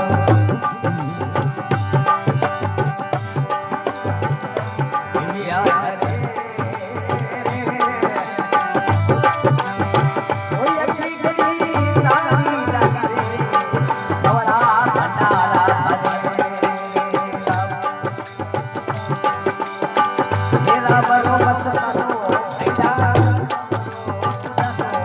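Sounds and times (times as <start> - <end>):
drum beat: 0.0 - 25.0
wavering melody: 0.0 - 25.0.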